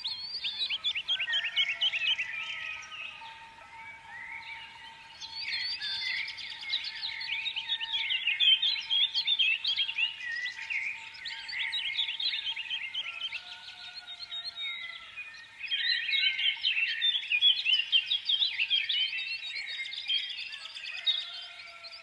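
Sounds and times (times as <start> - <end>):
small birds chirping chorus: 0.0 - 22.0.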